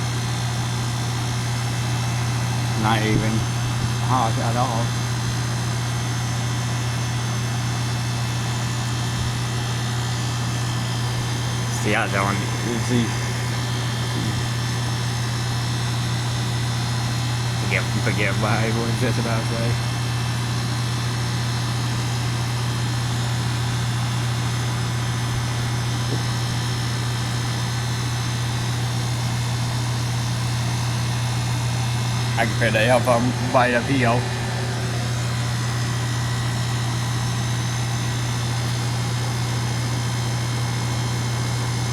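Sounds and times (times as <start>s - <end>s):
compressor hum: 0.0s - 41.9s
condenser fan rushing: 0.0s - 41.9s.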